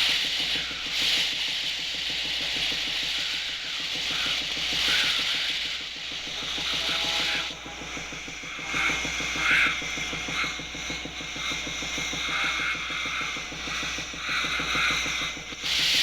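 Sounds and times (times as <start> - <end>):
steady hiss: 0.0 - 10.0, 10.8 - 16.0
steam pump chugging: 0.0 - 16.0.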